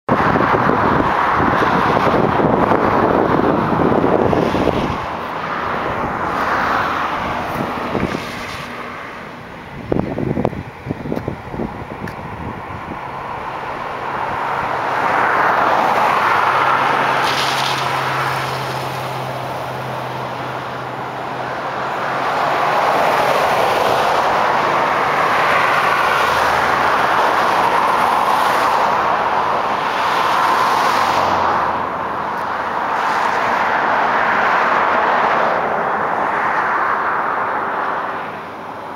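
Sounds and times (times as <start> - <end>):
vehicles passing: 0.1 - 38.9.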